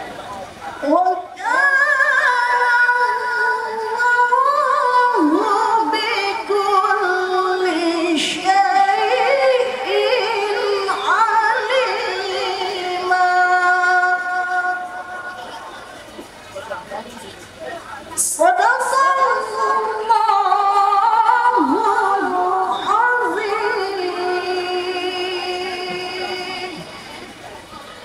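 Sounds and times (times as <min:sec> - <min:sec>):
woman chanting through loudspeakers: 0:00.8 - 0:15.3, 0:18.2 - 0:27.2.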